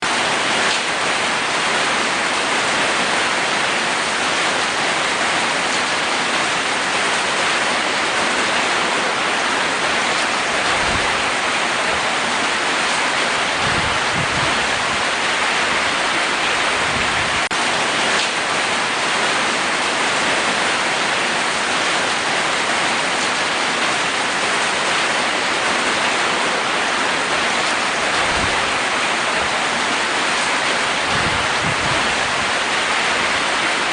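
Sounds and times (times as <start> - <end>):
rain on a roof: 0.0 - 33.9.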